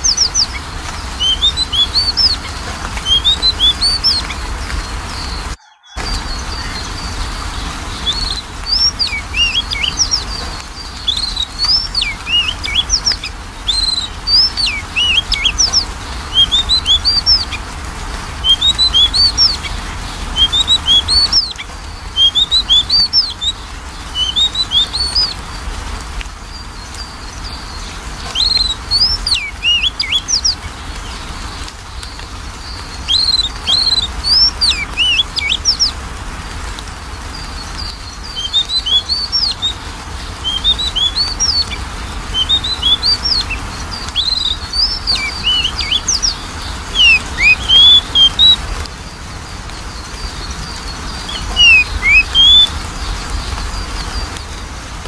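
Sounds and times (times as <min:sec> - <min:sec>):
bird song whistles and chirps: 0:00.0 - 0:17.7, 0:18.4 - 0:25.7, 0:26.4 - 0:36.0, 0:37.1 - 0:54.6.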